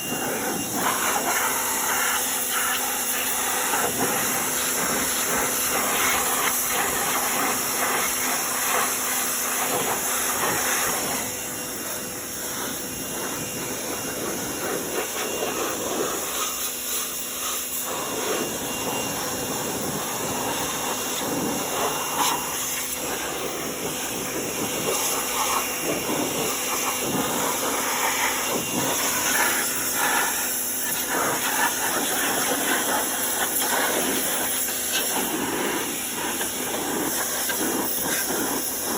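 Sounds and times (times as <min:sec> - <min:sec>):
pressure washer hum: 0:00.0 - 0:38.9
pressure washer spray hiss: 0:00.0 - 0:38.9.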